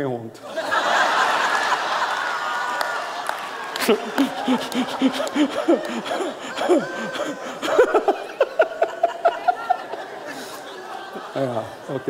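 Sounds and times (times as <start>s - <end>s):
audience laughing: 0.4s - 12.0s.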